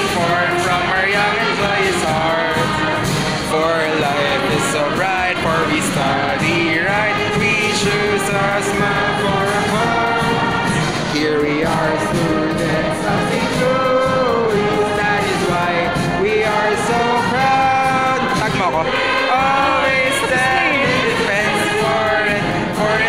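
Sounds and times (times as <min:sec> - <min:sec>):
many voices singing: 0:00.0 - 0:23.0.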